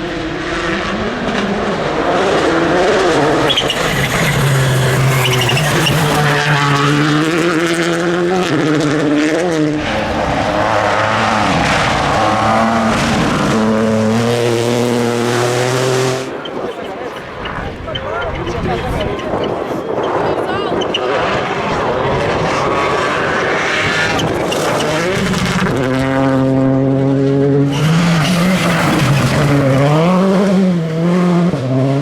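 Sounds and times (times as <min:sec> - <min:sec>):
rally car engine revving hard: 0:00.0 - 0:16.4, 0:20.8 - 0:32.0.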